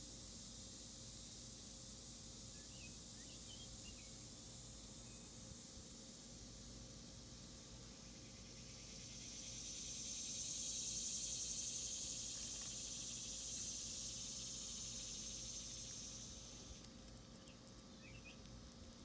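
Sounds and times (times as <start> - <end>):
cicada buzzing: 1.9 - 19.0.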